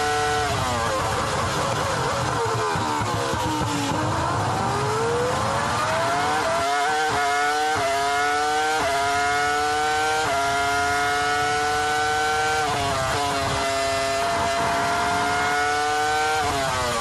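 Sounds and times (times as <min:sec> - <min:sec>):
racing car engine upshifting: 0:00.0 - 0:17.0.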